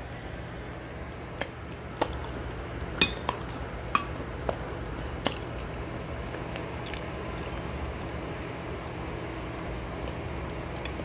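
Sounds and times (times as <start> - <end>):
wet squishing of food: 1.1 - 11.0.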